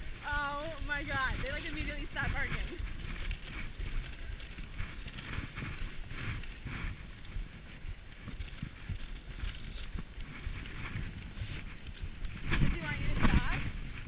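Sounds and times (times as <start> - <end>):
sled runners scraping on snow: 0.0 - 14.0
wind buffeting microphone: 0.0 - 14.0.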